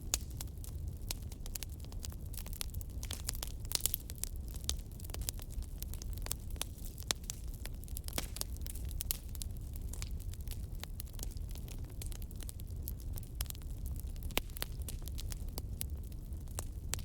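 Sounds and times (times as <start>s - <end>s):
fire crackling and popping: 0.0s - 17.0s
low rumble of fire: 0.0s - 17.0s.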